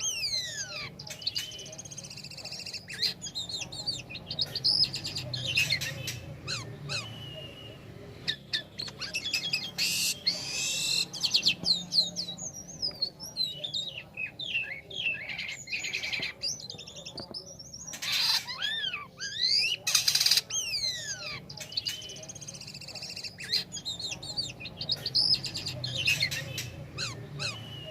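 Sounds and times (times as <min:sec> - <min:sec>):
starling singing: 0:00.0 - 0:27.9.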